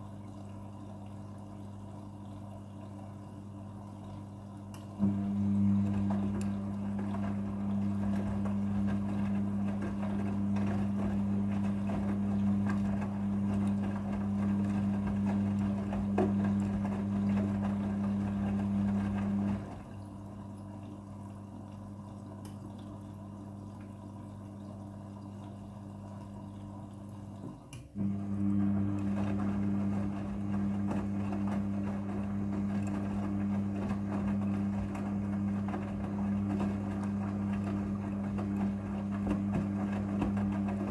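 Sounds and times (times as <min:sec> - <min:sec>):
washing machine drum humming: 0:00.0 - 0:40.9
water running in: 0:00.0 - 0:40.9.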